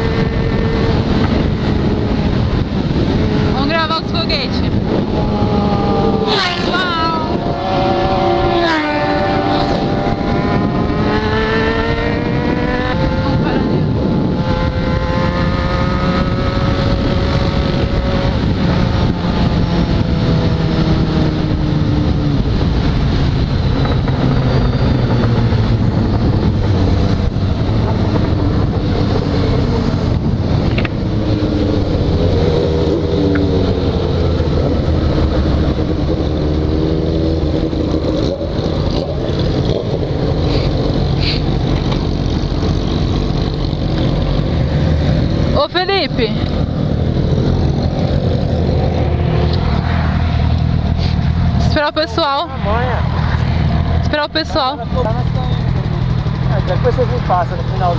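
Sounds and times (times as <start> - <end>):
motorcycle engine at speed: 0.0 - 57.9
wind rush: 0.0 - 57.9.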